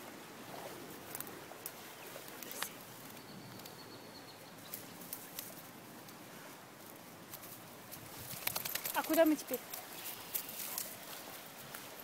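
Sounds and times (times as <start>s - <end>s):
stream running over rocks: 0.0s - 3.8s, 4.6s - 12.0s
grass and twigs rustling: 0.0s - 12.0s.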